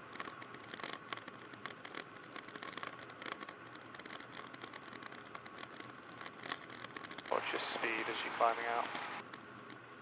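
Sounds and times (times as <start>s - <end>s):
faint crackling and clicking: 0.0s - 10.0s.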